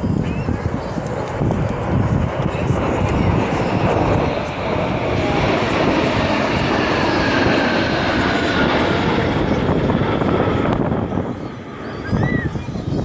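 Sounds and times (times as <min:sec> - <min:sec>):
jet engines flying past: 0:00.0 - 0:13.0.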